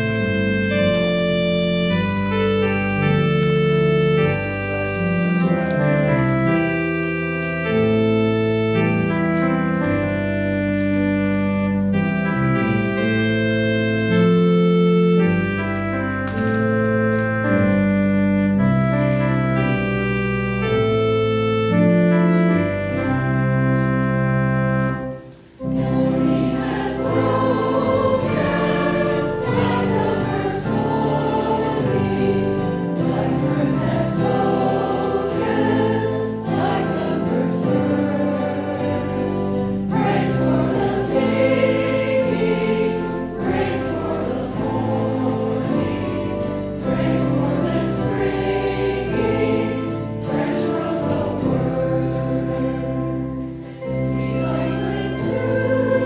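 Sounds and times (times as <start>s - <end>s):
choir singing a hymn: 0.0s - 56.0s
organ: 0.0s - 56.0s.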